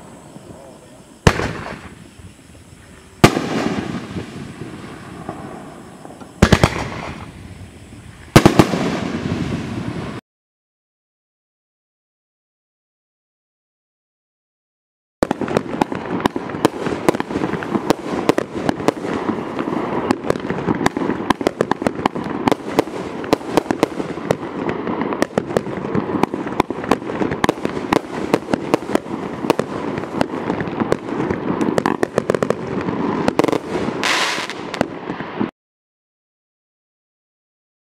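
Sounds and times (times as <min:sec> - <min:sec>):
fireworks hiss: 0:00.0 - 0:10.2, 0:15.2 - 0:35.5
fireworks popping: 0:00.0 - 0:10.2, 0:15.2 - 0:35.5.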